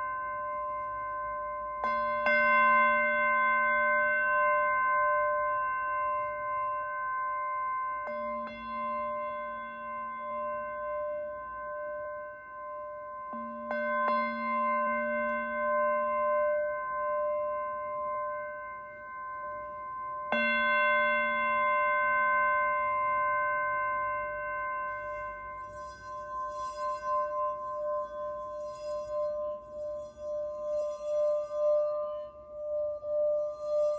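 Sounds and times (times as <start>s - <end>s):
singing bowls ringing: 0.0s - 33.9s.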